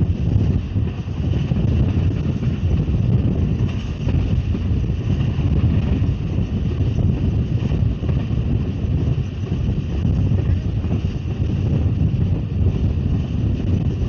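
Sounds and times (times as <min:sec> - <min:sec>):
train low rumble: 0:00.0 - 0:14.0
wind buffeting microphone: 0:00.0 - 0:14.0.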